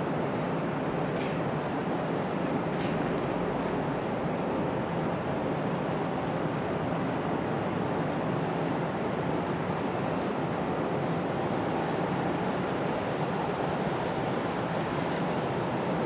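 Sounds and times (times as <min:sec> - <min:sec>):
distant aircraft engines rushing: 0:00.0 - 0:16.0.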